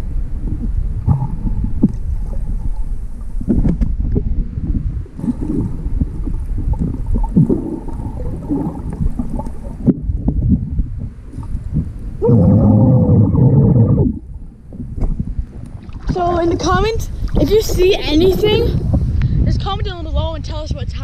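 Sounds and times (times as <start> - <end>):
muffled water sloshing: 0.0 - 19.2
muffled water rush: 0.0 - 20.9.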